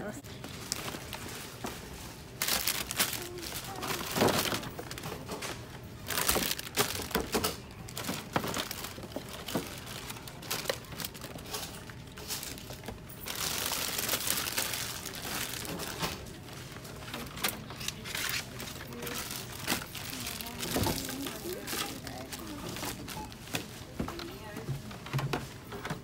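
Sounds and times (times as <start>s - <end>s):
plastic packaging crinkling: 0.4s - 24.5s.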